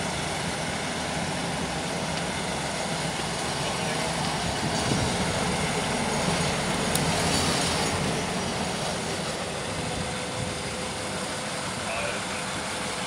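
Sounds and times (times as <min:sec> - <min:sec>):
diesel locomotive engine rumble: 0:00.0 - 0:13.0
train wheels rolling on rail: 0:00.0 - 0:13.0.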